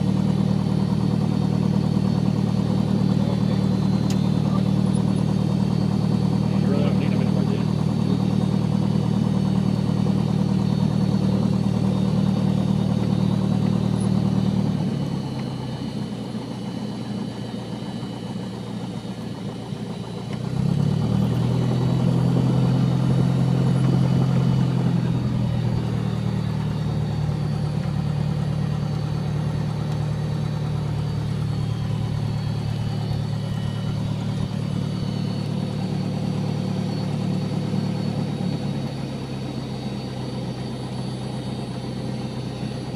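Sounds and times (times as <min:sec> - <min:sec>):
small plane engine running: 0:00.0 - 0:42.9.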